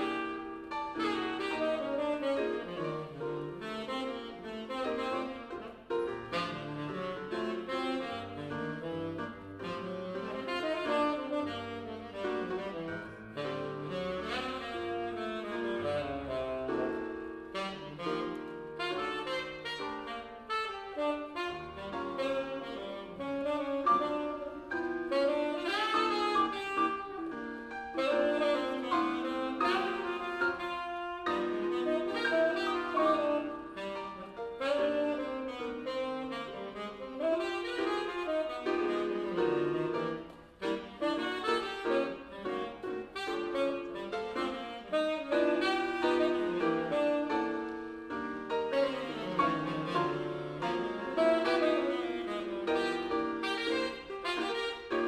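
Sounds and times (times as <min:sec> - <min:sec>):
piano chords and bass: 0:00.0 - 0:55.0
saxophone melody: 0:00.0 - 0:55.0.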